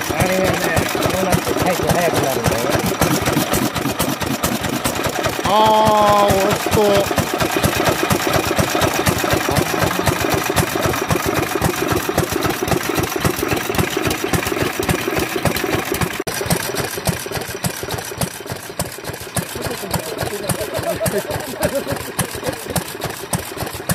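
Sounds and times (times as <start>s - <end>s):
stationary engine running: 0.0s - 23.9s.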